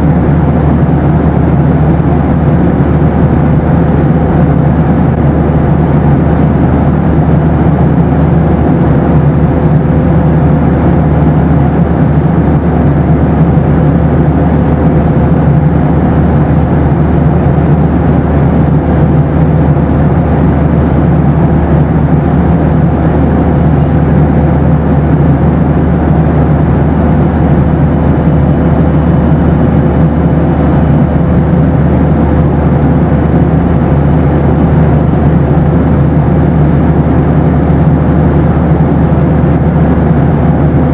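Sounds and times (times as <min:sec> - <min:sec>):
aircraft engine and airflow noise: 0:00.0 - 0:40.9
faint steady hum: 0:00.0 - 0:40.9.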